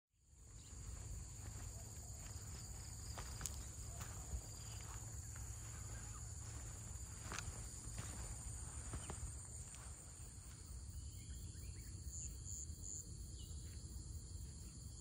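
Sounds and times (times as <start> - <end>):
insects droning: 0.2 - 15.0.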